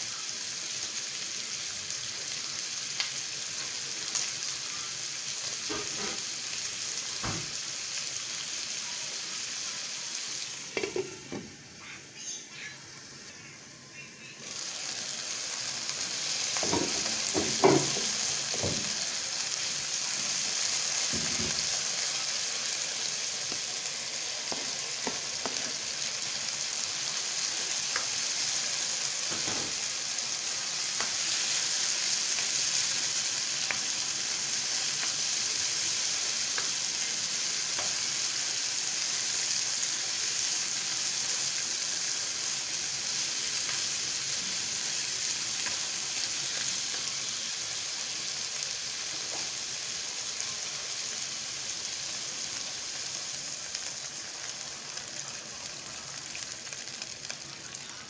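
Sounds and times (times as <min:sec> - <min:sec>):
chicken and onions sizzling: 0:00.0 - 0:58.0.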